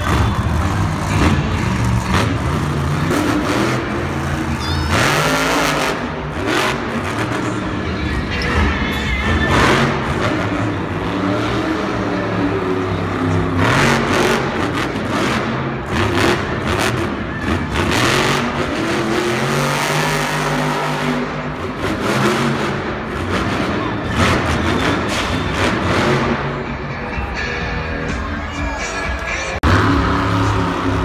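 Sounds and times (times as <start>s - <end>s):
monster truck engines revving: 0.0s - 31.0s.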